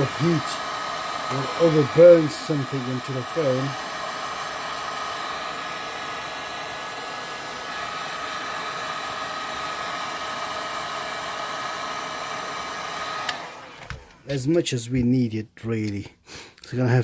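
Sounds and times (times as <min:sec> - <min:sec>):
heat gun blowing with high whine: 0:00.0 - 0:14.5.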